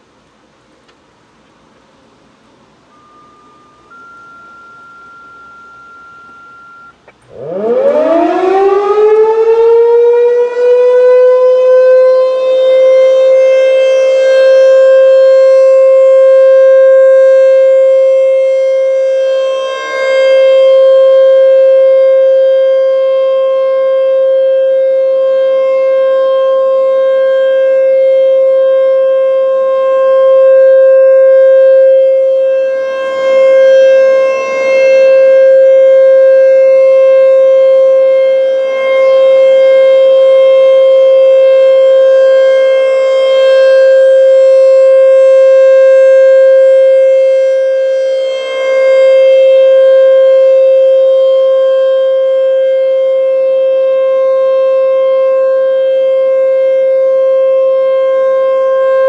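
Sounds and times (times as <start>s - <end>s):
rotating siren wailing: 2.9s - 59.0s.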